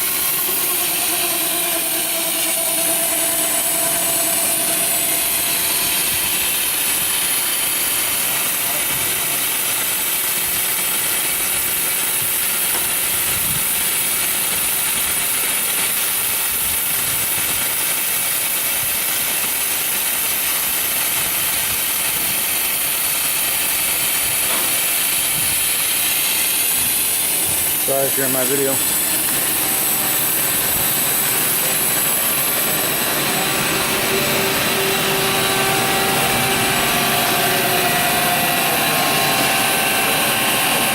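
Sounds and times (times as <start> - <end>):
grinder running with loud hiss: 0.0 - 40.9.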